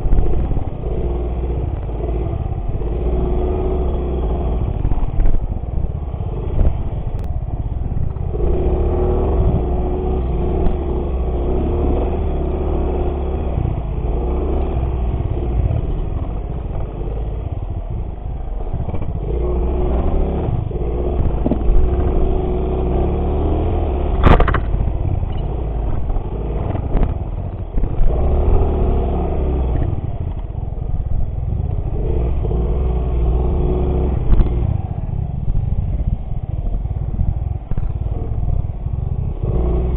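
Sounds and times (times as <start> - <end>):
small motorcycle engine revving: 0.0 - 39.9
wind and ground rumble: 0.0 - 39.9.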